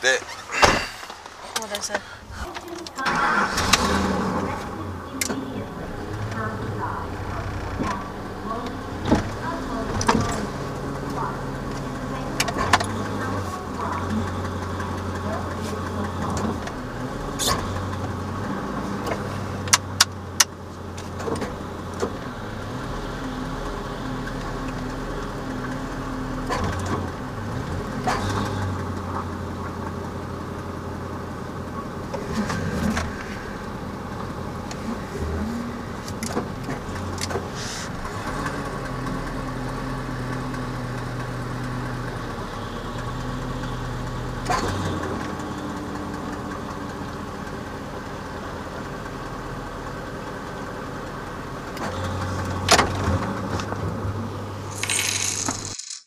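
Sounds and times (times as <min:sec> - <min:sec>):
towing gear rattling and clanking: 0:00.0 - 0:56.0
truck engine and road drone: 0:00.0 - 0:56.0.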